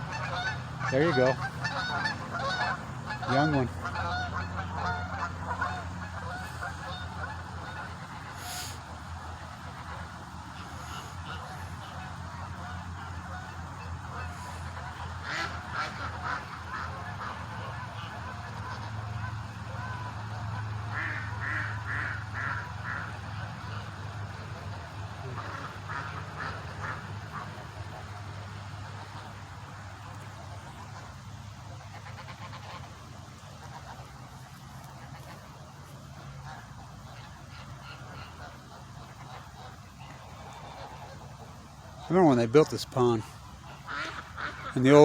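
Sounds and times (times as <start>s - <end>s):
ducks quacking: 0.0s - 45.0s
geese honking: 0.0s - 45.0s
steady low hum: 0.0s - 45.0s.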